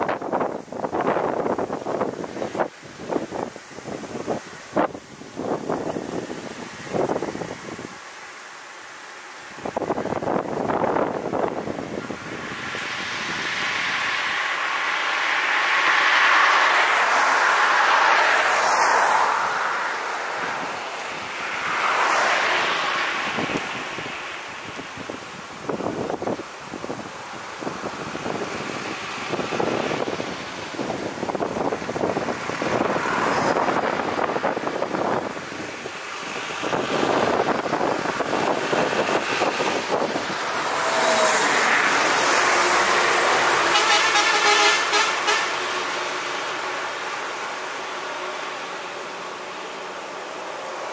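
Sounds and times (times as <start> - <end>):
wind on microphone: 0.0 - 8.0, 9.5 - 45.4
cars moving slowly and idling: 0.0 - 50.9
road traffic passing: 0.0 - 50.9.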